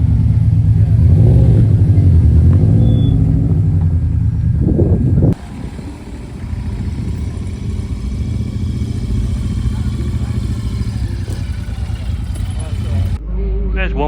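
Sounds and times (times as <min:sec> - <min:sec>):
car engine rumbling: 0:00.0 - 0:13.3.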